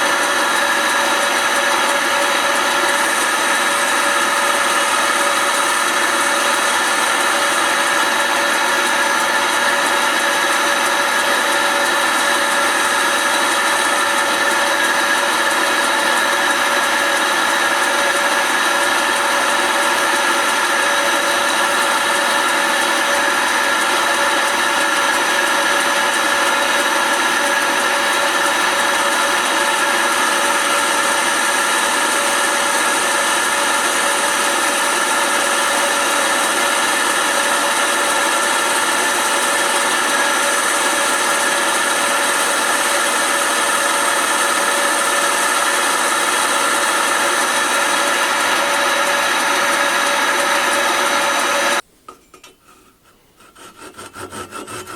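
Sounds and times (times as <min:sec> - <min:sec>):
lathe whining: 0:00.0 - 0:51.8.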